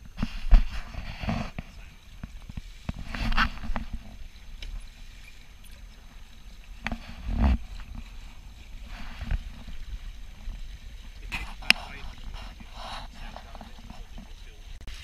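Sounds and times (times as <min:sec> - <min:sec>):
water slapping against hulls: 0:00.0 - 0:15.0
wind rumble on microphone: 0:00.0 - 0:15.0.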